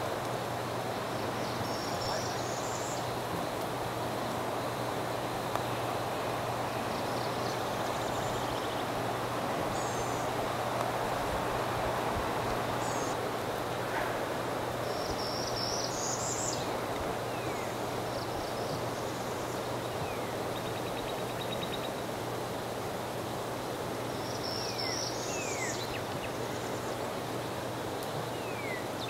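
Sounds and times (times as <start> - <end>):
outdoor background noise: 0.0 - 29.0
small birds calling: 0.8 - 3.3, 4.6 - 22.2, 24.2 - 29.0.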